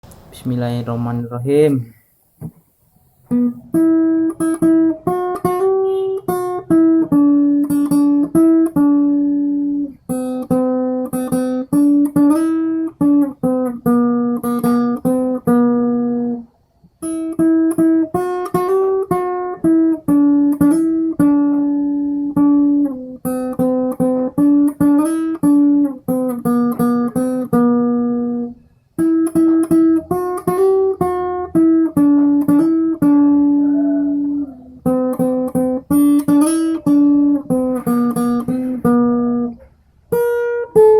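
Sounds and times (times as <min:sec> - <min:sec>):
acoustic guitar melody: 0:00.0 - 0:40.9.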